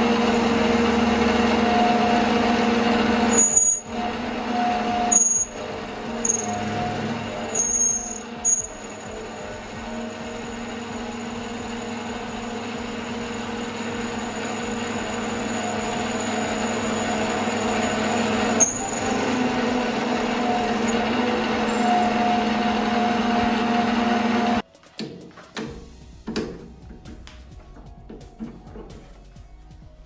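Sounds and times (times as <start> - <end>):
metal lathe motor whine: 0.0 - 24.6.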